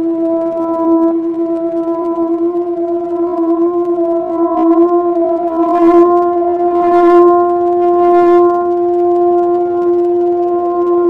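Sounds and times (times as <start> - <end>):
loud steady droning tone: 0.0 - 11.0.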